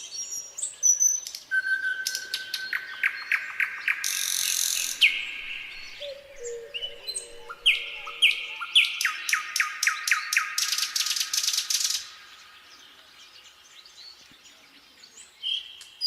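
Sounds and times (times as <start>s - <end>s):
nightingale singing: 0.0s - 16.0s.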